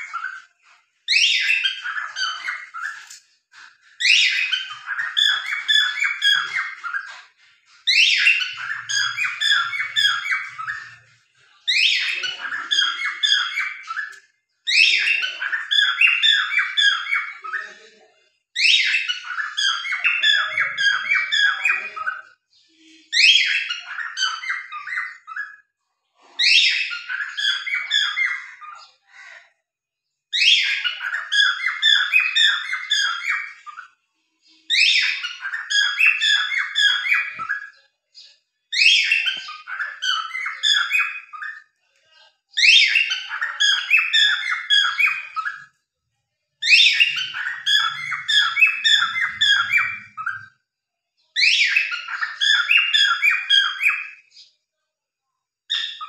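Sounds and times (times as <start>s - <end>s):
cockatiels chirping and squawking: 0.0s - 22.4s, 23.0s - 29.4s, 30.3s - 41.8s, 42.5s - 45.8s, 46.6s - 50.6s, 51.4s - 54.6s, 55.7s - 56.0s.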